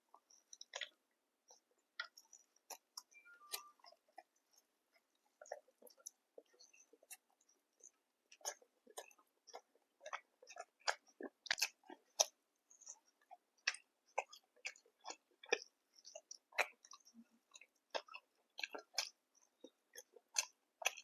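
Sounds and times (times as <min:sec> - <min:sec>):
chewing food with crunches: 0:00.0 - 0:21.0.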